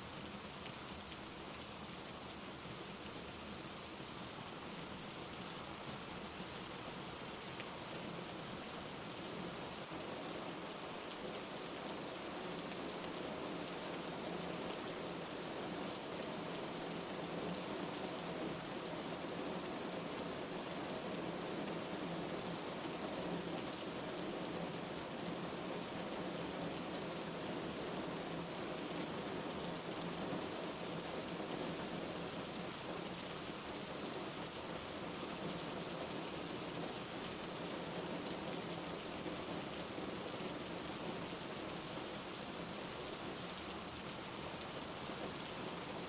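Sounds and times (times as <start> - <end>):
rain pattering on a surface: 0.0 - 46.0.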